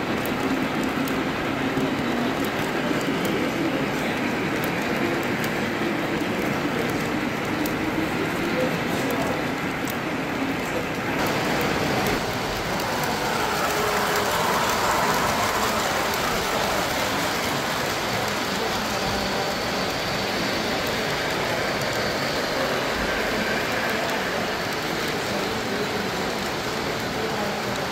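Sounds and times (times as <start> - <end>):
model train wheels rumbling on rails: 0.0 - 27.9.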